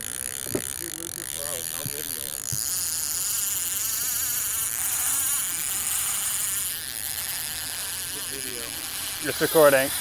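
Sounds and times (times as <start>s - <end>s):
fishing reel drag buzzing: 0.0s - 10.0s.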